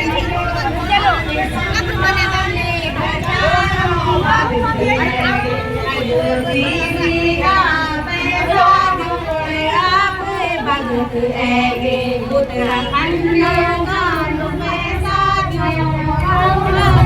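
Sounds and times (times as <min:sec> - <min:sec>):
women chanting in unison: 0:00.0 - 0:17.0.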